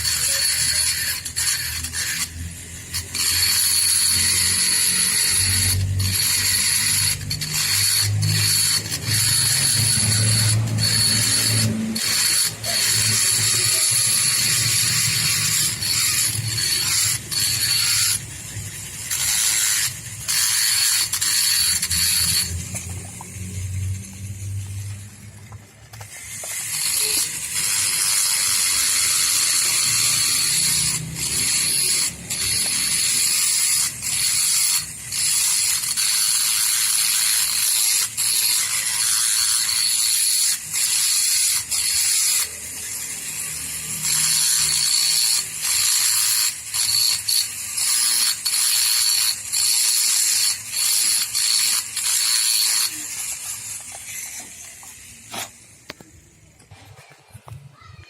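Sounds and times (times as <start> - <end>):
rotary grinder on metal: 0.0 - 57.5.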